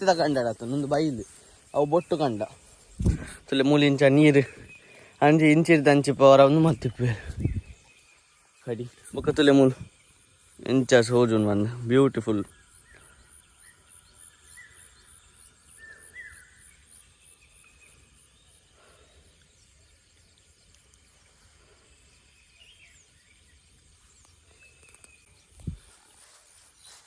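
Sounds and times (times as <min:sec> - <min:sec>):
high insect drone: 0:00.0 - 0:27.0
small birds chirping: 0:00.0 - 0:27.0.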